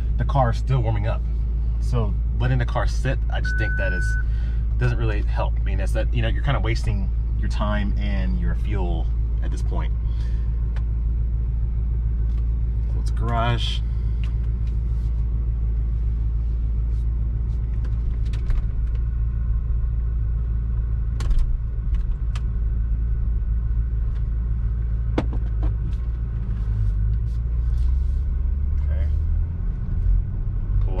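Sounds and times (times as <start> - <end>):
car engine idling from cabin: 0.0 - 31.0.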